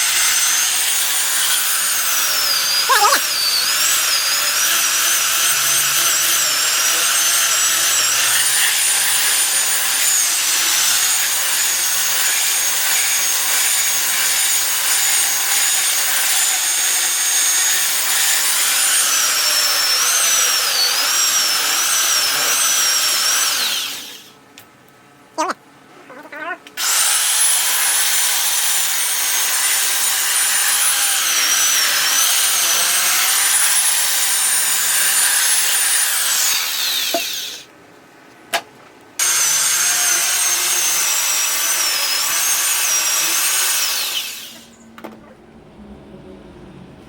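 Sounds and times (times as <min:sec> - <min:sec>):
power tool cutting wood: 0:00.0 - 0:24.4, 0:26.8 - 0:37.7, 0:39.2 - 0:44.8.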